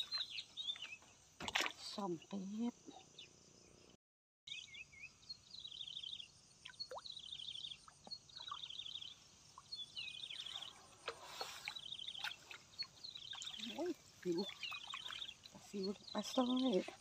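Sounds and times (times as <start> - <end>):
faint outdoor background noise: 0.0 - 17.0.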